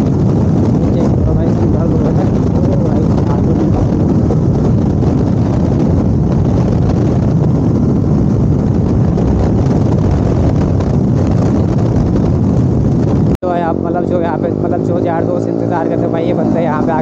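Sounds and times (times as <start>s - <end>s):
motorcycle engine running: 0.0s - 17.0s
wind rush on microphone: 0.0s - 17.0s.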